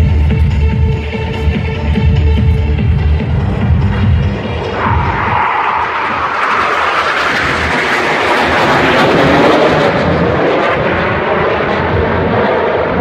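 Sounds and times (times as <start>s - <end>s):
aircraft engine roar overhead: 0.0s - 13.0s.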